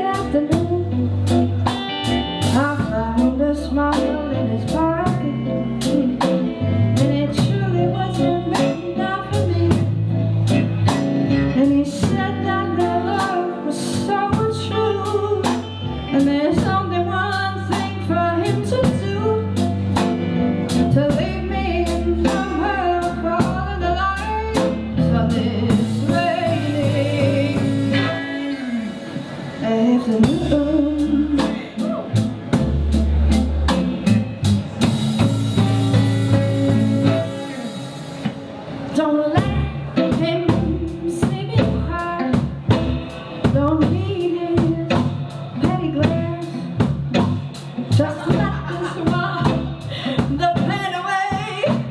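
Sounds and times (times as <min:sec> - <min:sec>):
woman singing: 0:00.0 - 0:10.6, 0:11.5 - 0:19.8, 0:20.7 - 0:32.2, 0:35.6 - 0:38.3, 0:38.9 - 0:51.9
bass guitar: 0:00.0 - 0:51.9
drum kit: 0:00.0 - 0:51.9
electric guitars: 0:00.0 - 0:51.9.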